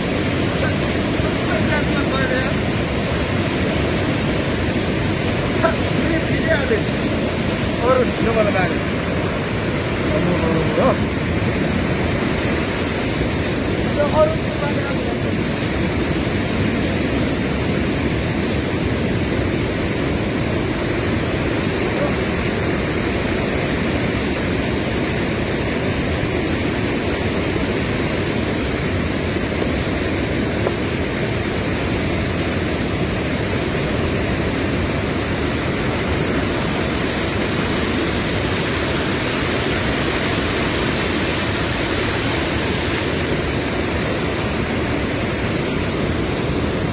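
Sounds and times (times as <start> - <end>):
river rushing: 0.0 - 46.9.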